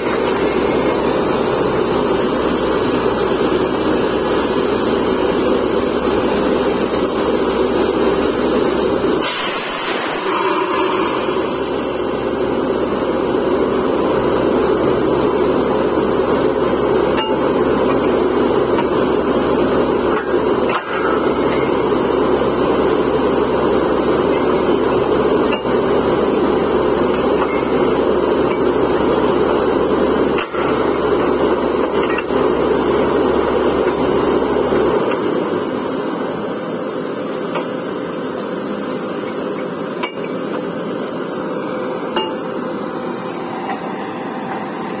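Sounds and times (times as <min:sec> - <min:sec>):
drilling rig hammering rattle: 0:00.0 - 0:45.0
engine and compressor rumble: 0:00.0 - 0:45.0.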